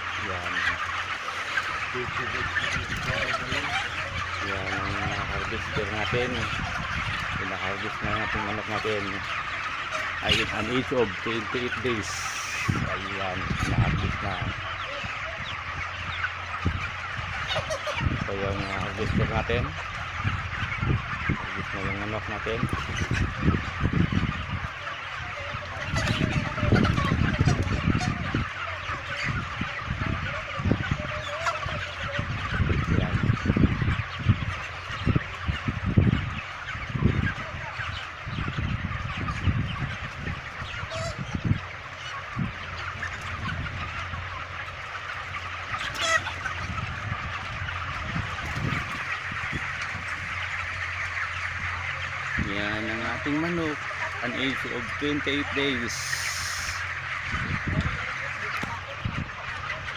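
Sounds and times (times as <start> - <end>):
flock of chickens calling: 0.0 - 59.9.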